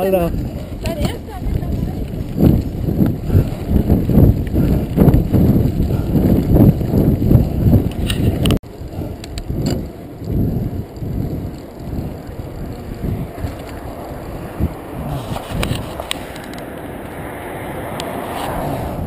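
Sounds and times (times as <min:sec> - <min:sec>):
bike rattles and clicks: 0:00.0 - 0:19.0
bike rolling on paved path: 0:00.0 - 0:19.0
bike tyres rumbling on gravel: 0:00.0 - 0:19.0
wind on the microphone: 0:00.0 - 0:19.0.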